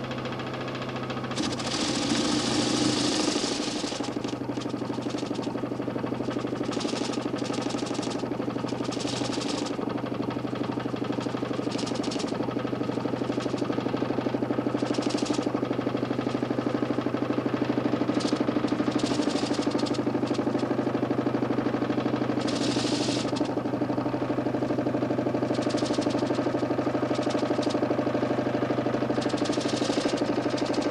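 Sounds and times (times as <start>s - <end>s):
motor humming with flutter: 0.0s - 30.9s.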